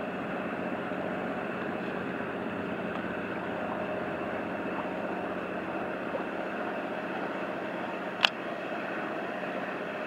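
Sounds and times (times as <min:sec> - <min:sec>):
ship engine drone: 0:00.0 - 0:10.0.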